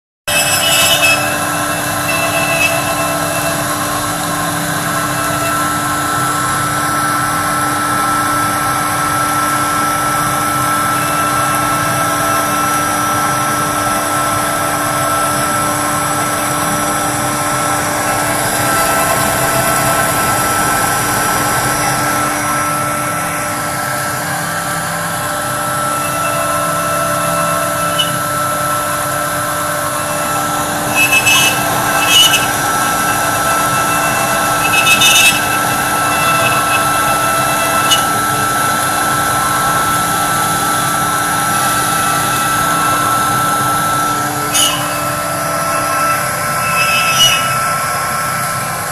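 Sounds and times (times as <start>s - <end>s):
bit cutting wood: 0.3s - 48.6s
router spindle whining: 0.3s - 48.9s.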